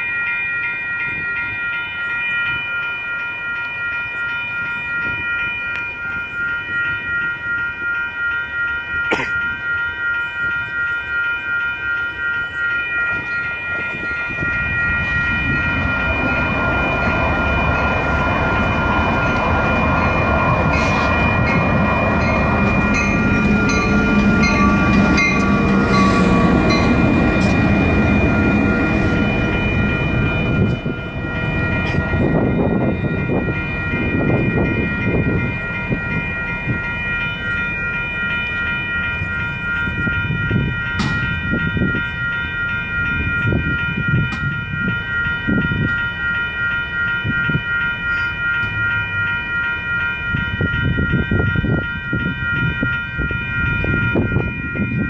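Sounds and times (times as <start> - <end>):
diesel locomotives moving past: 0.0 - 55.0
electronic crossing bells ringing: 0.0 - 55.0
light rail train rumbling past: 0.0 - 55.0.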